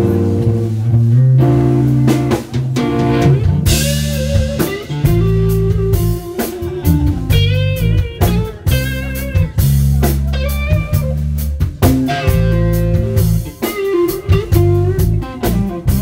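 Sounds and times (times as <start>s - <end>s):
bass line: 0.0s - 16.0s
bluesy electric guitar lead: 0.0s - 16.0s
drums: 0.0s - 16.0s.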